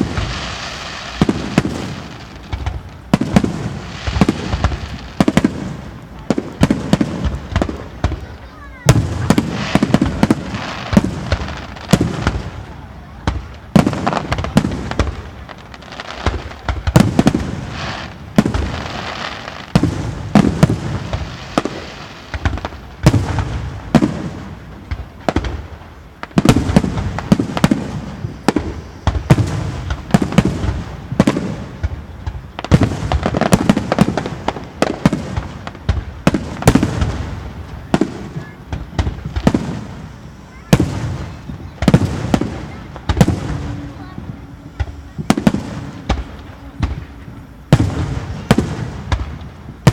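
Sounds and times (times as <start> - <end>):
fireworks bursting with bangs: 0.0 - 49.9
fireworks crackling: 0.0 - 49.9.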